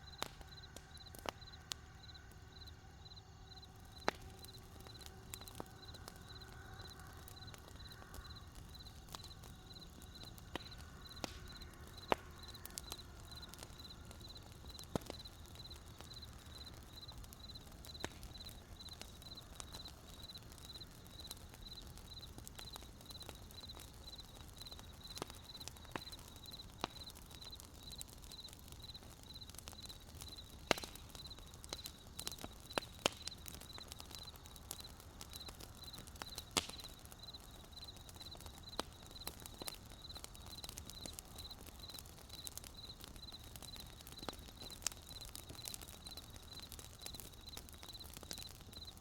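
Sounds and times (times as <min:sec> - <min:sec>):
campfire crackling and popping: 0:00.0 - 0:49.0
cricket chirping: 0:00.0 - 0:49.0.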